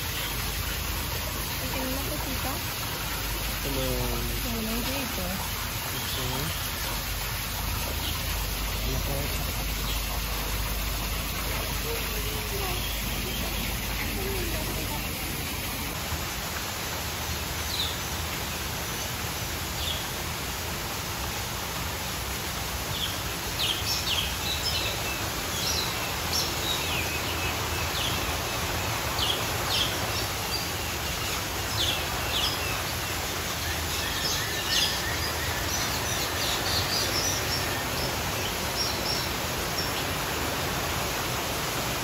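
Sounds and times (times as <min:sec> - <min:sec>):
birds chirping: 0:00.0 - 0:16.0, 0:22.9 - 0:41.9
steady background hiss: 0:00.0 - 0:42.0.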